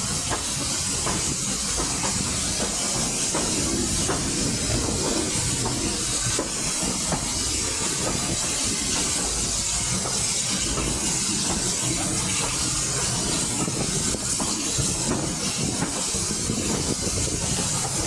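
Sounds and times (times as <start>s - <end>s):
loud rushing hiss: 0.0s - 18.0s
train wheels rumbling: 0.0s - 18.0s.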